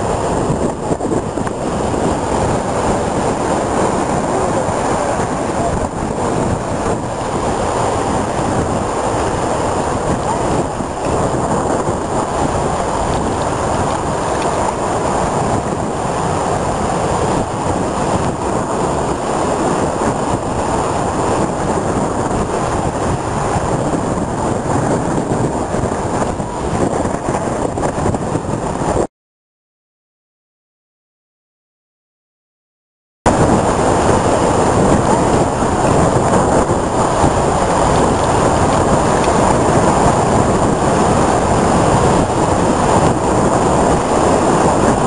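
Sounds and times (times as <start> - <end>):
heavy surf waves breaking: 0.0 - 29.1, 33.3 - 45.0
wind buffeting microphone: 0.0 - 29.1, 33.3 - 45.0.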